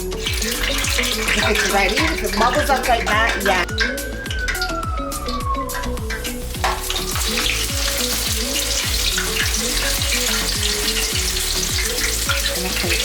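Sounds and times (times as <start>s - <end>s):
food frying in oil: 0.0s - 13.0s
low steady beat: 0.0s - 13.0s.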